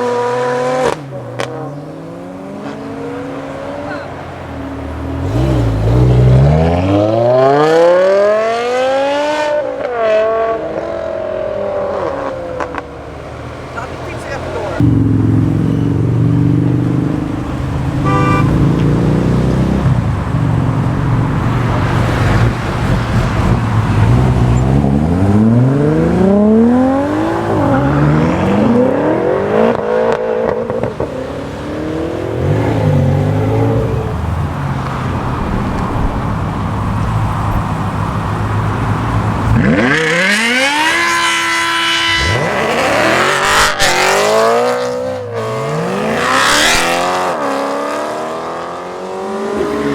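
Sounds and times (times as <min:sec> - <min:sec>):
car engines revving while accelerating: 0:00.0 - 0:49.9.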